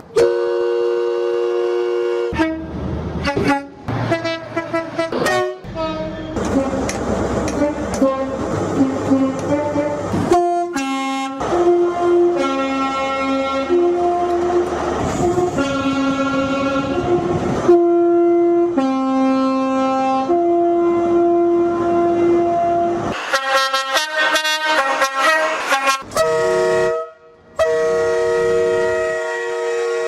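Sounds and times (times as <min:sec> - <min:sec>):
train horns: 0:00.0 - 0:30.0.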